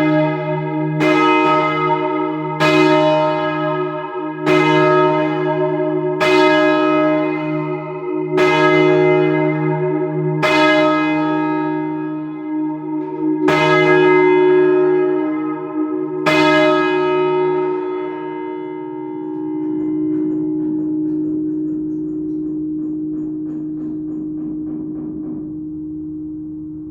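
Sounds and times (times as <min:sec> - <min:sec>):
heavy church bell ringing: 0:00.0 - 0:26.9.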